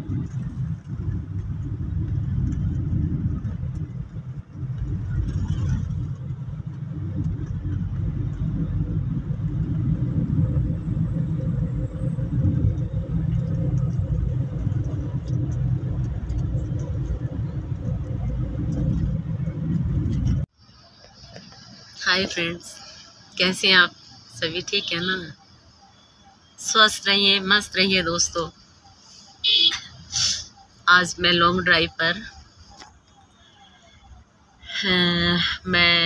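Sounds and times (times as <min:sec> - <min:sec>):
car cabin road noise: 0:00.0 - 0:36.0.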